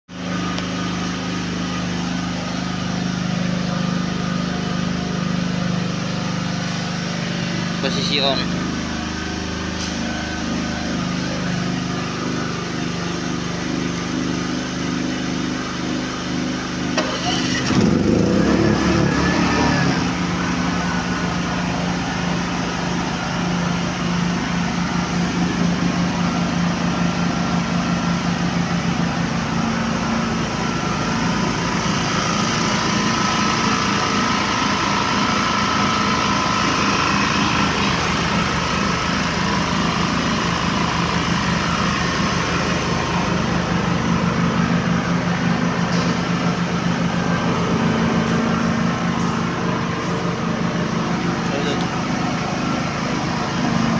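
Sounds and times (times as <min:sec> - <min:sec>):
generator engine running: 0:00.1 - 0:53.9.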